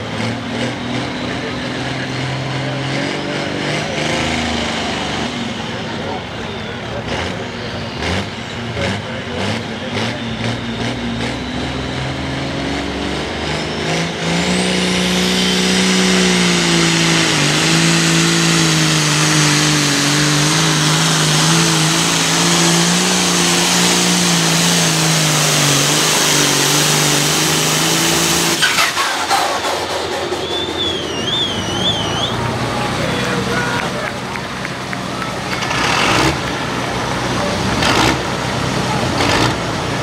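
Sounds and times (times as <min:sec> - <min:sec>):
tractor diesel engine revving: 0:00.0 - 0:40.0.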